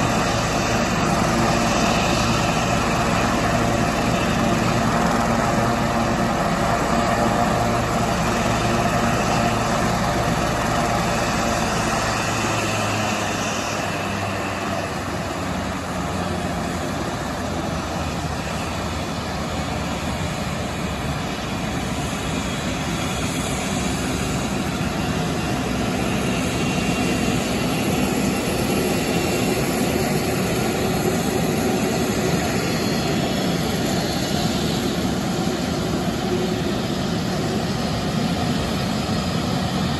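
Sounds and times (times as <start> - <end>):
helicopter rotors turning: 0.0 - 39.9
turboshaft engines running: 0.0 - 39.9.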